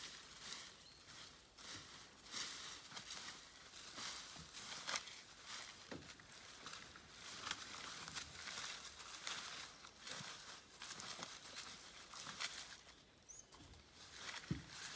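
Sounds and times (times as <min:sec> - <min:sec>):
dry grass and leaves rustling: 0:00.0 - 0:14.9.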